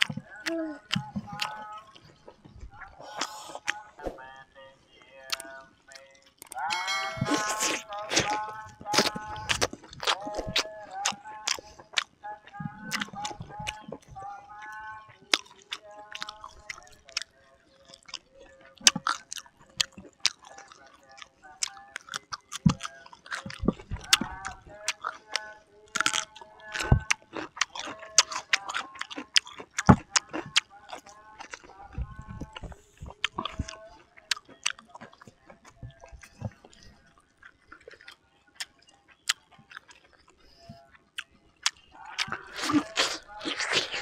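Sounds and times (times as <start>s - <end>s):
wet mouth clicks: 0.0s - 4.1s, 5.3s - 12.2s, 12.9s - 44.0s
lip smacks: 0.0s - 4.2s, 5.2s - 44.0s
chewing: 0.0s - 44.0s.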